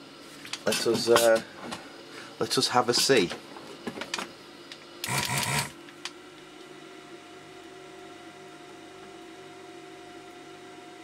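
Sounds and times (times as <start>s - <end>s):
desoldering station hum and hiss: 0.0s - 11.0s
thin steady whine: 0.0s - 11.0s.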